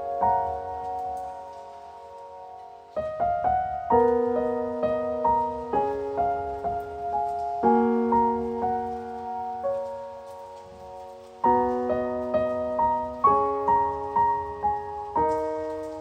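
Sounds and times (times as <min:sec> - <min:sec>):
soft solo piano chords: 0:00.0 - 0:16.0.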